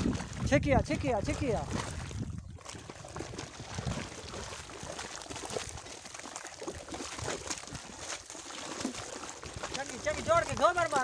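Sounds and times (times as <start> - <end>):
wet mud sloshing and splattering: 0.0 - 11.0.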